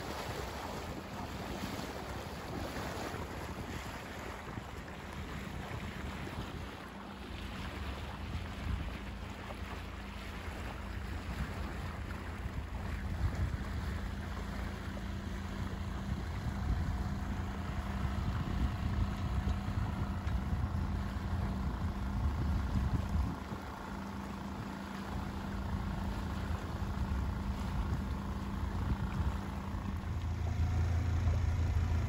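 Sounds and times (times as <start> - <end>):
outboard motor running: 0.0 - 32.0
wind buffeting microphone: 0.0 - 32.0.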